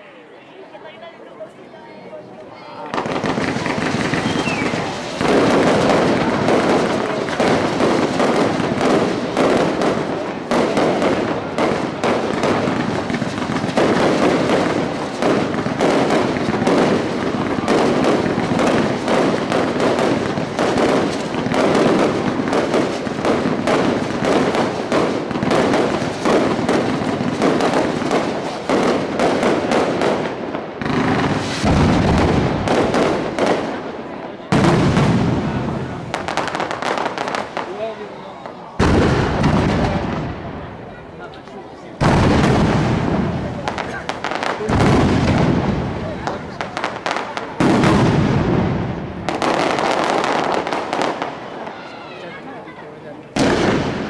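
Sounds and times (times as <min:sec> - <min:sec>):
fireworks bangs and crackling: 0:02.3 - 0:54.0.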